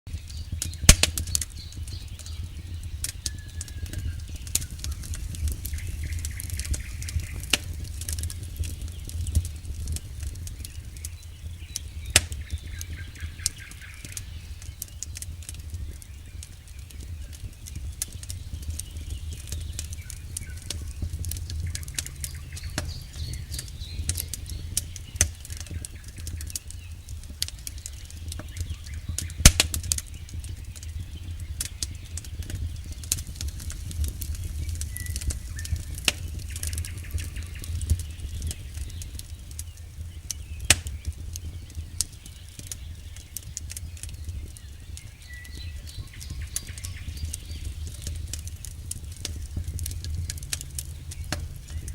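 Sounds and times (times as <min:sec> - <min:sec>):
firewood crackling and popping: 0:00.1 - 0:51.9
low rumble of flames: 0:00.1 - 0:51.9.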